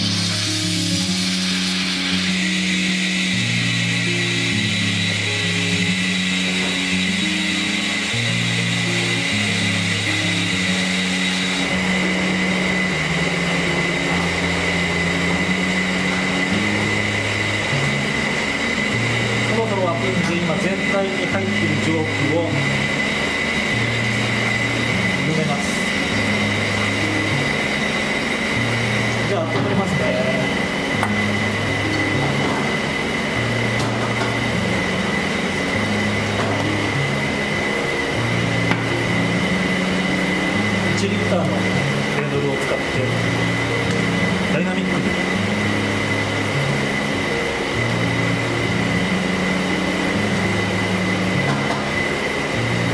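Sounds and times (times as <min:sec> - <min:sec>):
soft background music: 0:00.0 - 0:52.9
steam hiss with high whine: 0:00.0 - 0:52.9.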